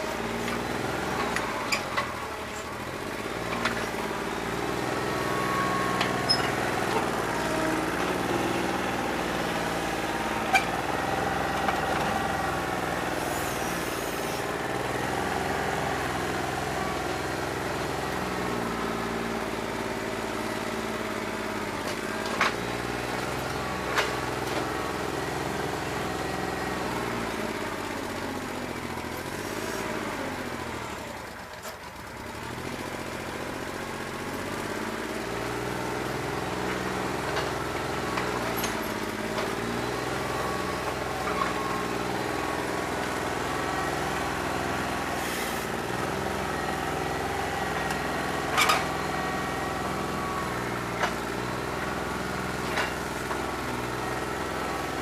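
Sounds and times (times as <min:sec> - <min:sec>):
diesel tractor engine running unevenly: 0:00.0 - 0:55.0.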